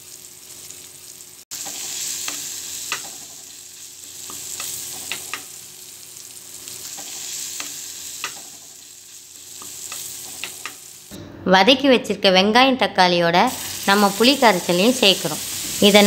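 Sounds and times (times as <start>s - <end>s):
vegetables sizzling in oil: 0.0s - 11.1s, 13.5s - 16.0s.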